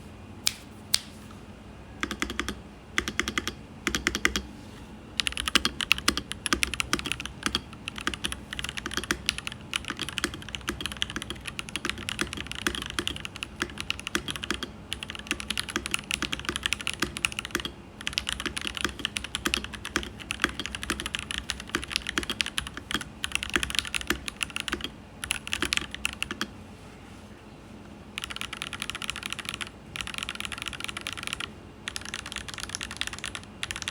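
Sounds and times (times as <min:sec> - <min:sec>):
mechanical keyboard typing: 0:02.0 - 0:04.5, 0:05.2 - 0:26.5, 0:28.2 - 0:33.9.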